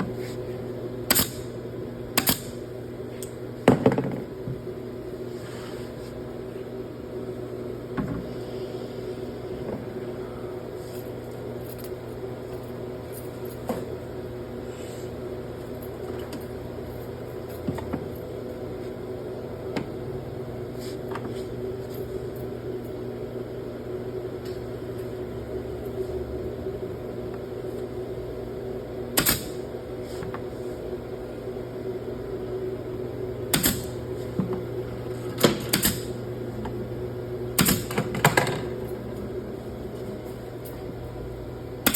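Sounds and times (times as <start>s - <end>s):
machine hum with steady tones: 0.0s - 41.9s.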